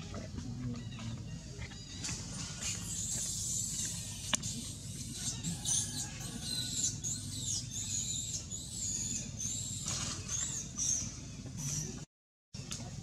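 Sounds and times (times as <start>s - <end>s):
high-pitched animal calls: 0.8s - 12.0s.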